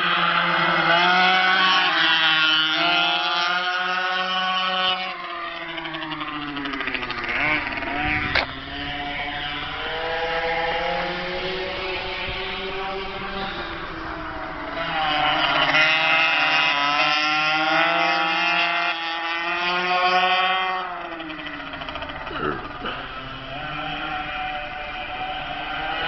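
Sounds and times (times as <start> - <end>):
small two-stroke engine revving: 0.0 - 26.0.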